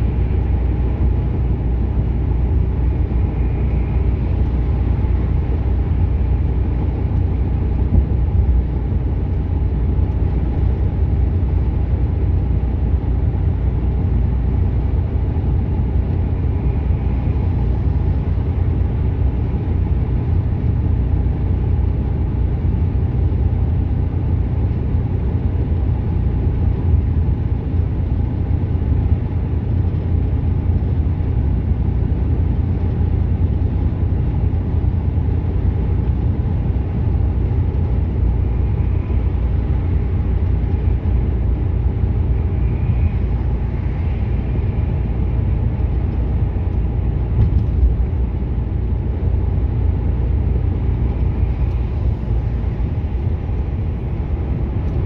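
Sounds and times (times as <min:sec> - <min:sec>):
diesel engine drone: 0:00.0 - 0:55.0
tyres rumbling on road: 0:00.0 - 0:55.0.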